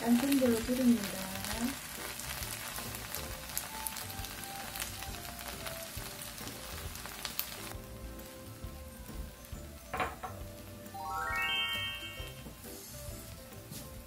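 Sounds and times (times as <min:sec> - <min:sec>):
batter sizzling in oil: 0:00.0 - 0:14.0
light background music: 0:00.0 - 0:14.0.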